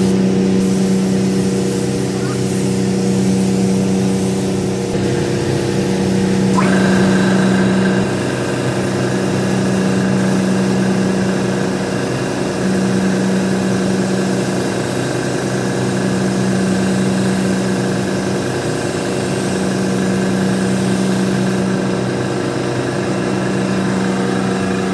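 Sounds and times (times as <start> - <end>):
paint spray gun hissing: 0.0 - 21.6
steady mechanical hum: 0.0 - 24.9.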